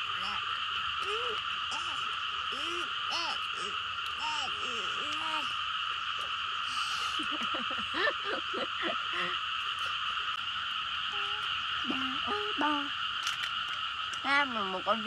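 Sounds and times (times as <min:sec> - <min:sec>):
short pitched frog calls: 0:00.0 - 0:14.7
chorus of frogs calling: 0:00.0 - 0:15.0.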